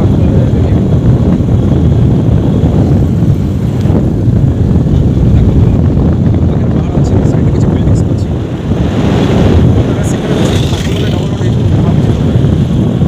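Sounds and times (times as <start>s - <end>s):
motorbike engine and road noise: 0.0s - 13.0s
wind buffeting the microphone: 0.0s - 13.0s.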